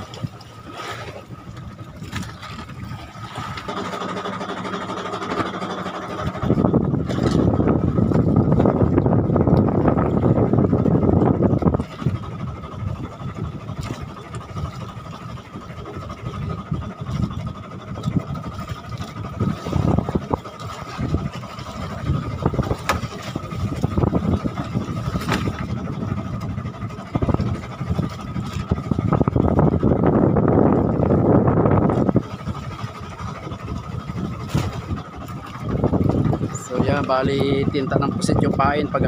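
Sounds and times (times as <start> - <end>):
sea water rushing around boat: 0.0 - 39.0
wind buffeting microphone: 0.0 - 39.0.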